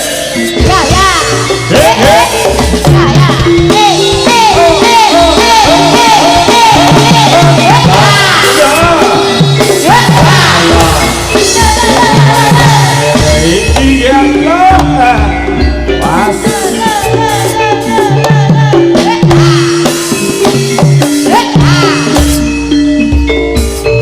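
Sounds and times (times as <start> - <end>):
drum-driven ensemble playing: 0.0 - 24.0.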